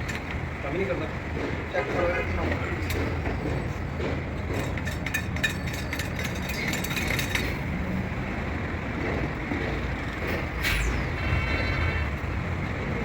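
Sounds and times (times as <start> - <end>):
street traffic: 0.0 - 13.0
workshop background rumble: 0.0 - 13.0.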